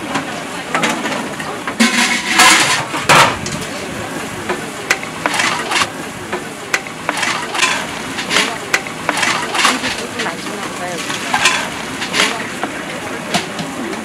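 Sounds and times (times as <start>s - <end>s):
metal pots and utensils clanking: 0.0s - 3.9s, 4.5s - 14.0s
steady noisy background: 0.0s - 14.0s.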